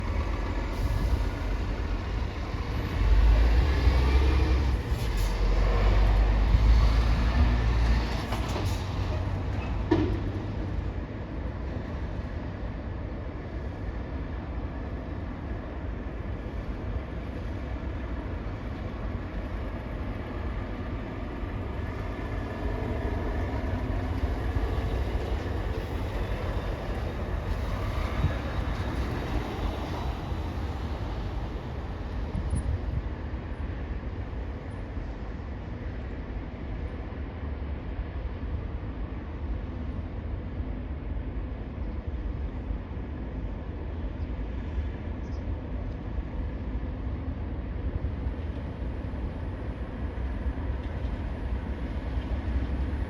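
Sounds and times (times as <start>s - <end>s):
heavy vehicle engine rumble: 0.0s - 53.0s.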